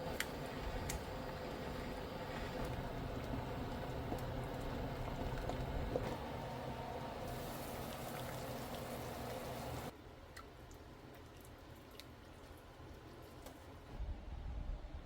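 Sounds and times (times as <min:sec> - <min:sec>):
liquid bubbling in a pot: 0:00.1 - 0:13.8.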